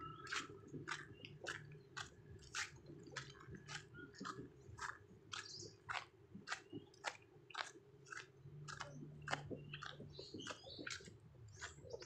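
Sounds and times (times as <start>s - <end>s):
footsteps on gravel: 0.2s - 12.0s.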